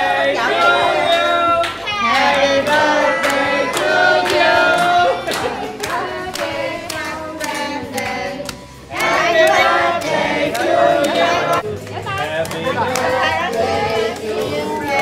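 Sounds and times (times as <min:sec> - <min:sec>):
group singing a birthday song: 0:00.0 - 0:15.0
hand clapping in time: 0:01.1 - 0:15.0.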